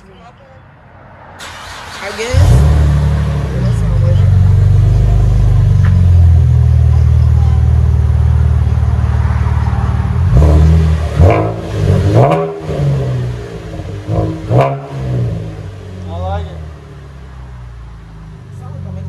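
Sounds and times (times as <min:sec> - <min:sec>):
engine revving: 0:01.4 - 0:16.8
car engine idling: 0:01.4 - 0:19.0.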